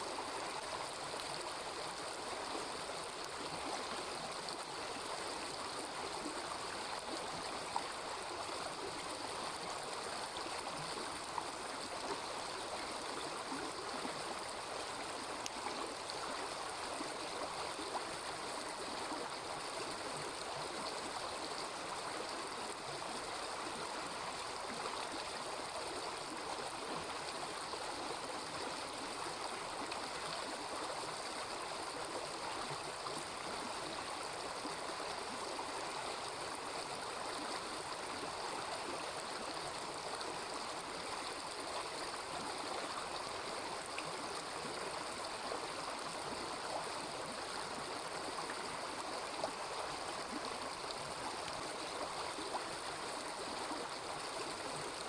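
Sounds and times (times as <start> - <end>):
small river babbling: 0.0 - 55.0.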